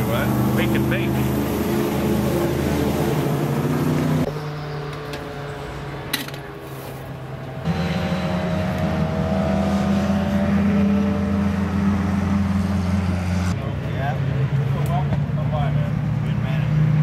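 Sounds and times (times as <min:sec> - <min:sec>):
vehicle engine running: 0:00.0 - 0:16.7.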